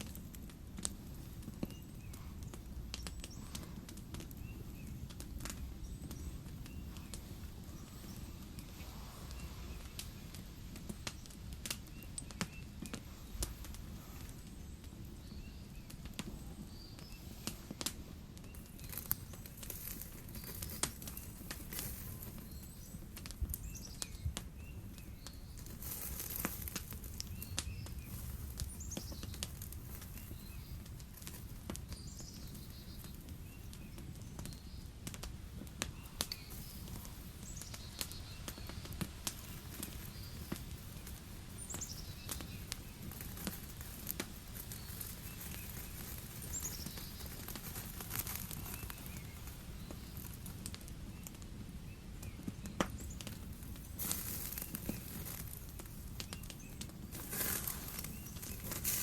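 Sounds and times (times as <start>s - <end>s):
campfire crackling: 0.0s - 59.0s
faint bird chirps: 1.0s - 59.0s.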